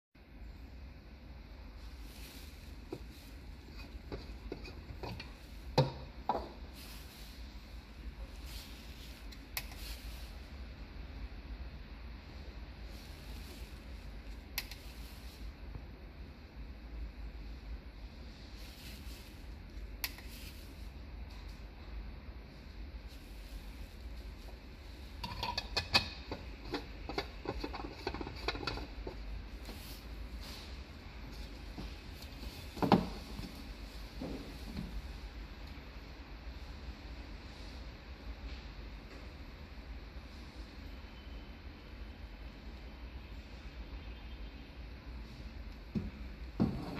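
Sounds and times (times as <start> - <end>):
low steady hum: 0.2 - 46.9.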